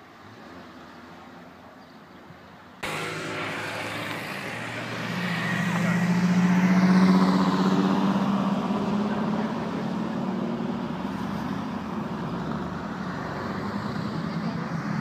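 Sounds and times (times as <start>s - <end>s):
cars driving by: 0.0s - 15.0s
sports car engine passing: 2.8s - 15.0s.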